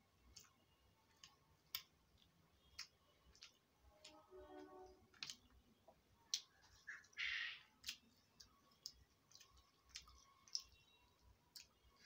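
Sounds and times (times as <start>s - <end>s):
lip-smacking chewing: 0.2s - 4.2s, 5.1s - 12.0s.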